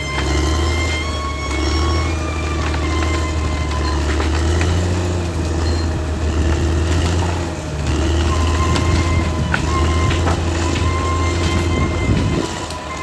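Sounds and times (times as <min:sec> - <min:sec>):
bulldozer diesel engine running: 0:00.0 - 0:13.0
metallic clanks: 0:00.0 - 0:13.0
thin high squeaks: 0:00.0 - 0:13.0.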